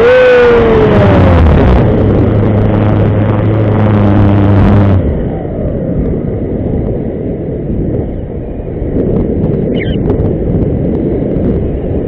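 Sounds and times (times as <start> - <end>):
electric motor and propeller droning: 0.0 - 12.0
low rush of air: 0.0 - 12.0.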